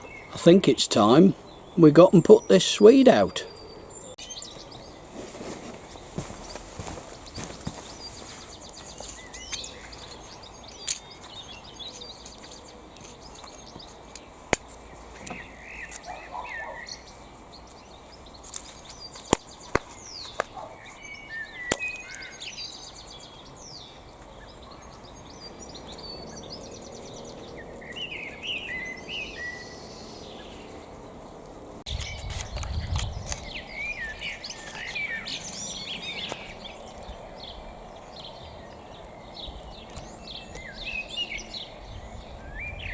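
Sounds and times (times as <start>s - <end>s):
outdoor background noise: 0.0s - 42.9s
small birds chirping and singing: 0.0s - 42.9s.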